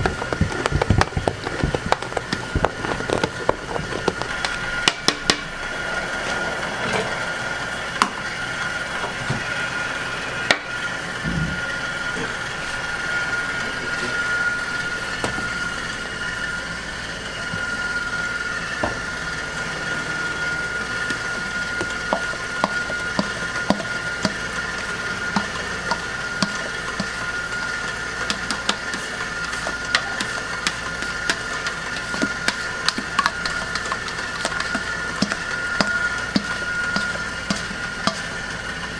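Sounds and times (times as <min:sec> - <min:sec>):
high whine: 0:00.0 - 0:38.9
kitchen machinery humming: 0:00.0 - 0:38.9.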